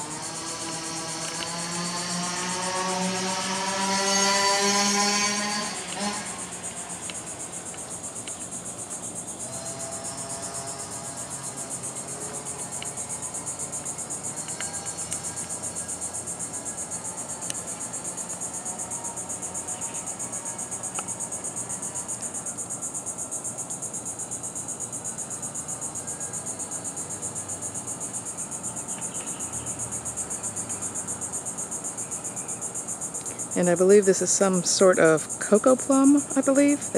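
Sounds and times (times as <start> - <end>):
insects trilling: 0.0 - 36.9.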